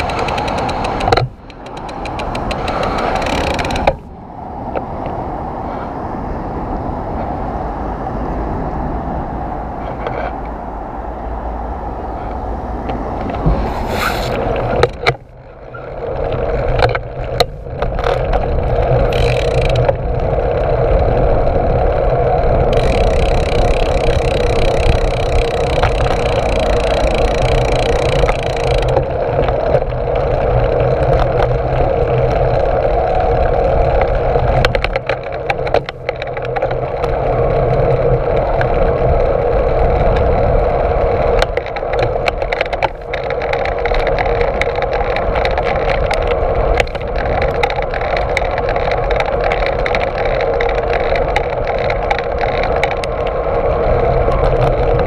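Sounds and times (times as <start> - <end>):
bicycle knocking and rattling: 0.0 - 4.2, 12.2 - 55.0
bicycle tyre and wind rush: 0.0 - 55.0.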